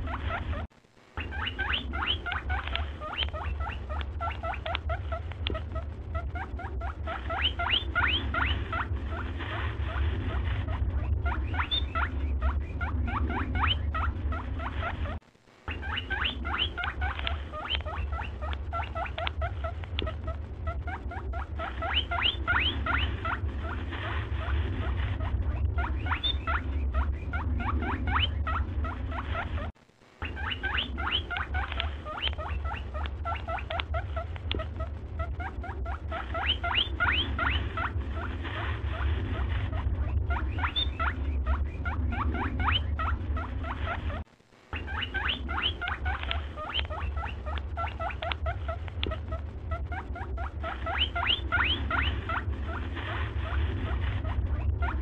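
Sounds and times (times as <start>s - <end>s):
steady low hum: 0.0s - 30.2s, 30.8s - 55.0s
rapid squeaky chirps: 0.0s - 55.0s.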